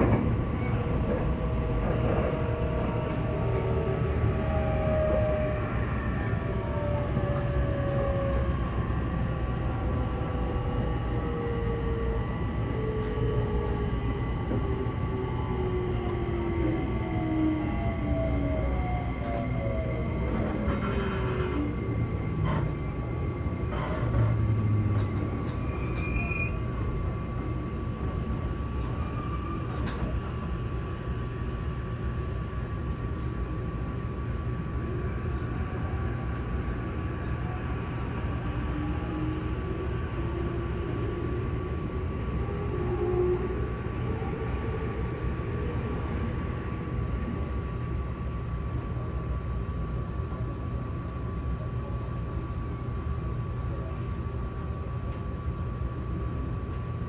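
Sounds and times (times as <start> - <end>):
constant high whine: 0.0 - 57.0
train wheels rumbling on rail: 0.0 - 57.0.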